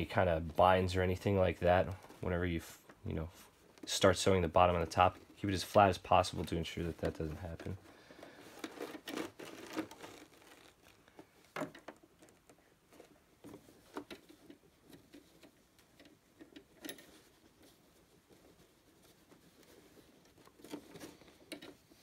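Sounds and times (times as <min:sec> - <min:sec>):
fabric rustling: 0:00.0 - 0:22.0.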